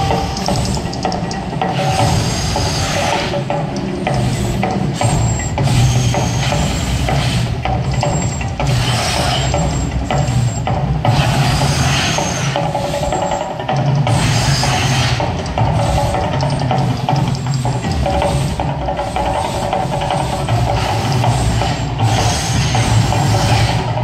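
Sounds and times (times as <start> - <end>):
gas fire jets hissing: 0.0 - 24.0
rattling percussive soundtrack: 0.0 - 24.0.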